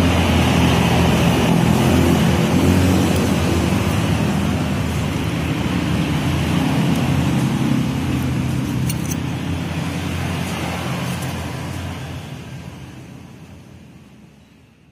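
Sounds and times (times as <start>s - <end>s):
traffic rumble: 0.0s - 14.9s.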